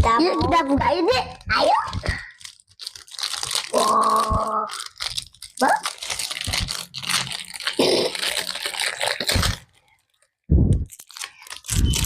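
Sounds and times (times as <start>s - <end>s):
packaging crinkling and tearing: 1.3s - 12.0s.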